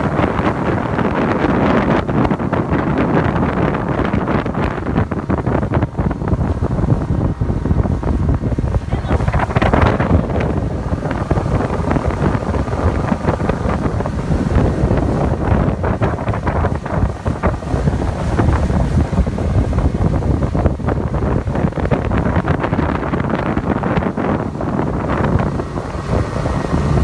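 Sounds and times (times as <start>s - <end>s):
outboard motor running: 0.0s - 27.0s
water rushing from wake: 0.0s - 27.0s
wind buffeting microphone: 0.0s - 27.0s.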